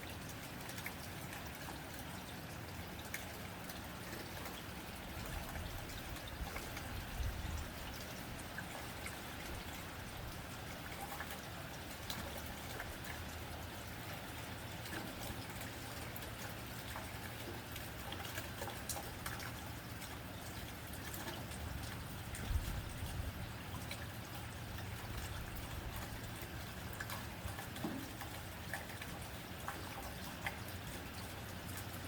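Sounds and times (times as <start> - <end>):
rain on a tin roof: 0.0 - 32.0.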